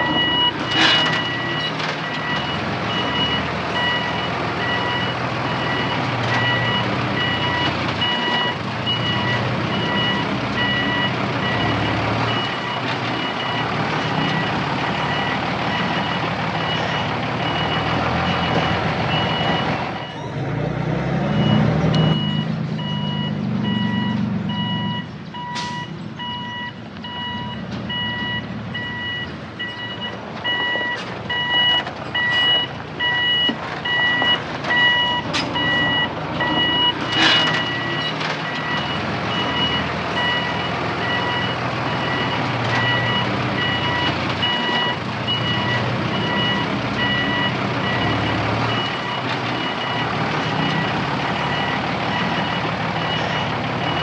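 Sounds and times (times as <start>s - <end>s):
reversing alarm beeping: 0.0s - 20.4s, 21.3s - 54.0s.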